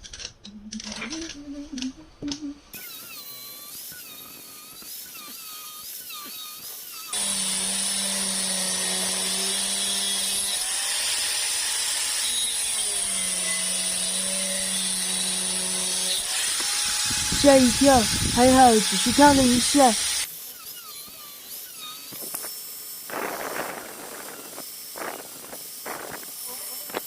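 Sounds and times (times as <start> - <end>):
electric power tool whining: 2.7 - 27.0.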